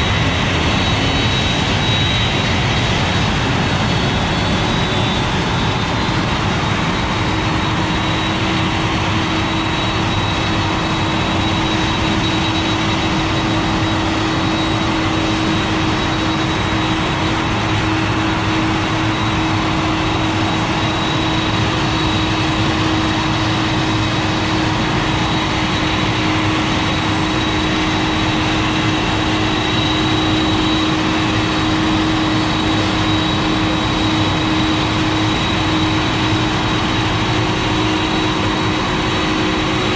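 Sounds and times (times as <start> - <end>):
jet engine whine and rumble: 0.0 - 39.9.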